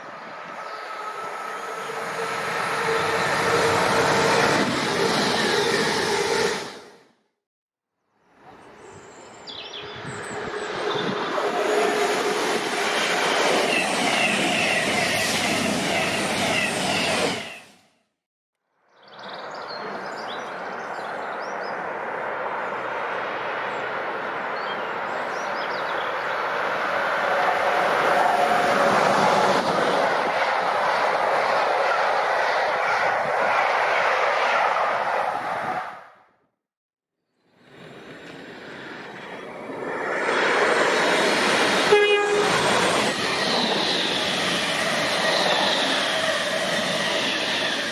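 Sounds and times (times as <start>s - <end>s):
train rushing past: 0.0s - 7.0s, 10.0s - 17.8s, 21.8s - 36.2s, 37.6s - 47.9s.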